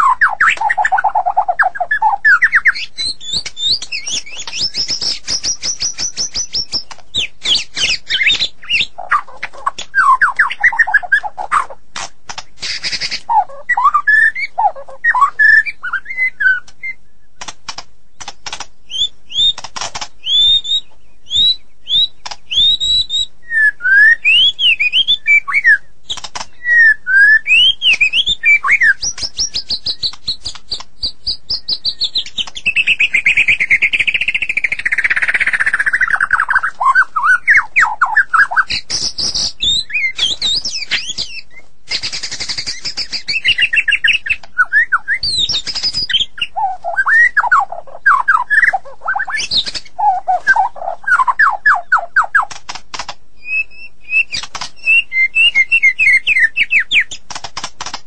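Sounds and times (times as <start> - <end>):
bird singing whistles and trills: 0.0 - 11.8, 12.6 - 17.5, 18.1 - 52.6, 53.4 - 57.2.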